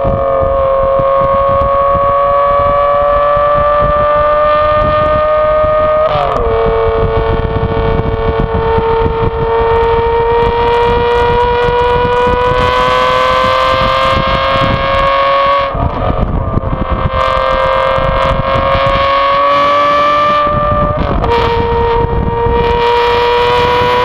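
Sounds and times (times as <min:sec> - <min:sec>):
car engine revving under load: 0:00.0 - 0:24.0
exhaust crackles: 0:00.0 - 0:24.0
wind buffeting microphone: 0:00.0 - 0:24.0.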